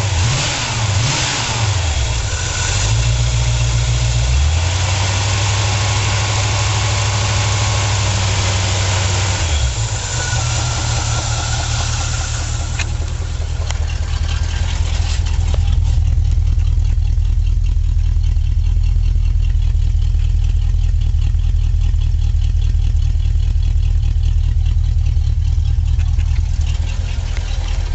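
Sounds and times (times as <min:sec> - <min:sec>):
engine idling with low rumble: 0:00.0 - 0:27.9.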